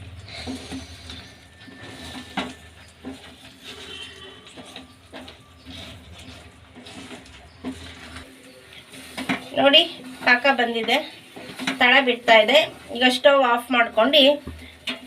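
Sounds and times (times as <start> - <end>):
spatula scraping in a pan: 0.1 - 14.1.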